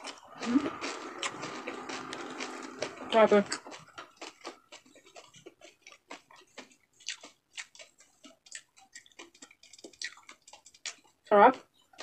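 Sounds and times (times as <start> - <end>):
chewing crispy fried pork: 0.0 - 12.0.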